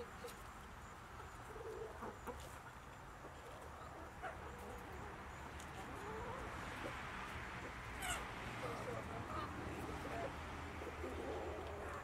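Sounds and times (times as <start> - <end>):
chickens clucking softly: 0.0 - 12.0.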